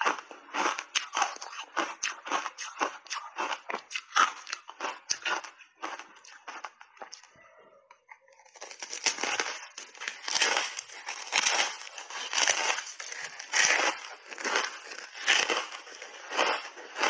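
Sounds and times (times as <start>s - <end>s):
ice bar crunching: 0.0s - 7.3s, 8.3s - 17.0s.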